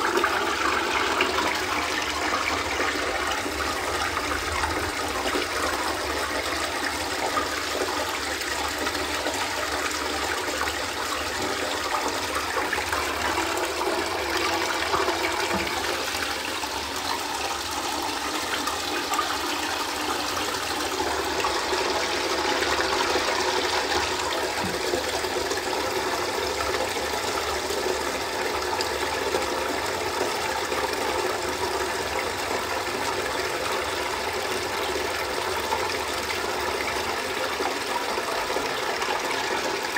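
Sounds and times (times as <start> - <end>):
water gurgling down drain: 0.0 - 39.9.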